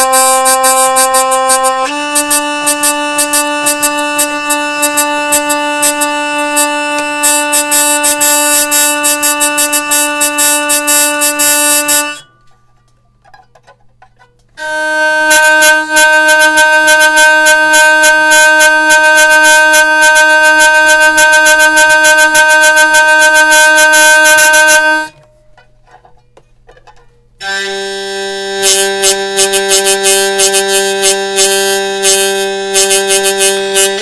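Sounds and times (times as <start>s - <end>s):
hurdy-gurdy sustained note: 0.0s - 12.5s, 14.6s - 25.2s, 27.4s - 34.0s.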